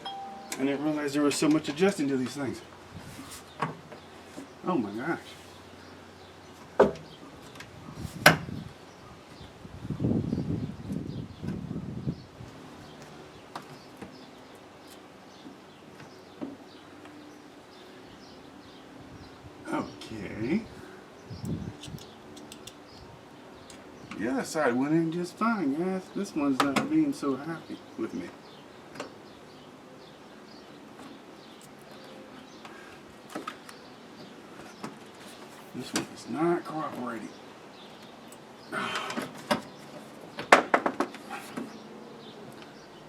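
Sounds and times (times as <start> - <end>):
faint birds chirping: 0.0 - 43.0.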